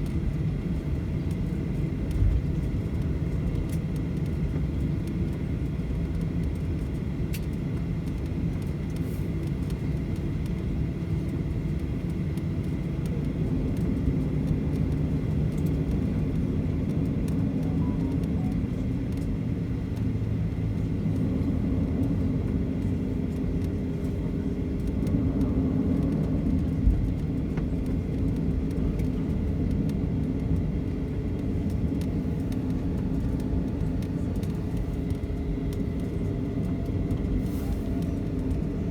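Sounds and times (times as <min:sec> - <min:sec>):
vehicle interior rumble: 0:00.0 - 0:38.9.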